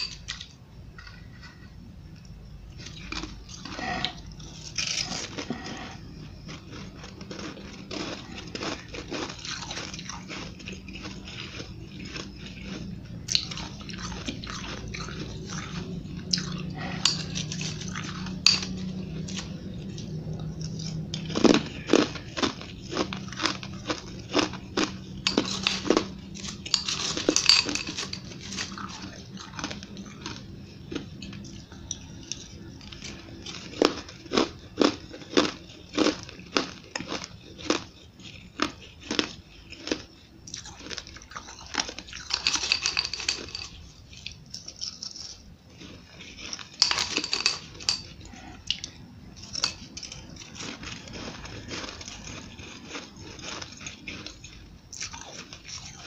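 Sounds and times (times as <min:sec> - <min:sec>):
spoon scraping crunchy ice: 0:00.0 - 0:01.8, 0:02.8 - 0:19.9, 0:20.9 - 0:56.0
chewing ice: 0:00.0 - 0:56.0.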